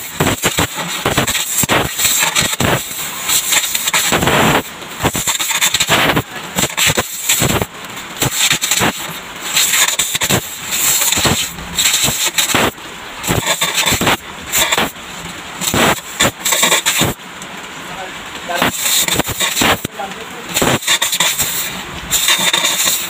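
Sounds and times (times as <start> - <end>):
welding arc crackling and sizzling: 0.0 - 23.0.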